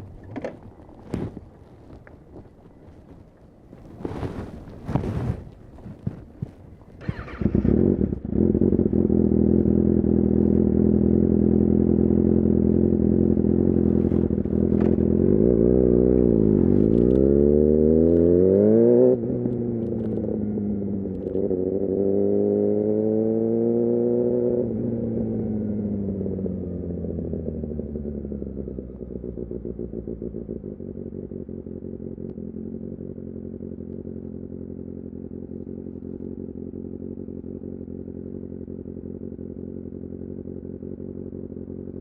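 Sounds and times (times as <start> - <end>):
motorcycle engine revving: 6.0 - 42.0.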